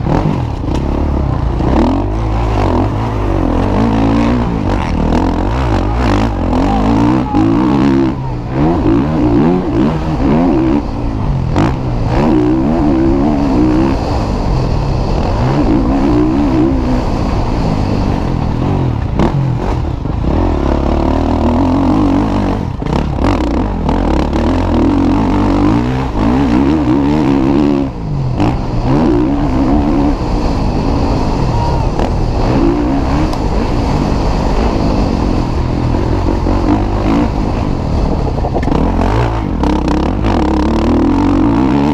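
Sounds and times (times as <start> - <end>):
motocross motorcycles revving: 0.0 - 41.9.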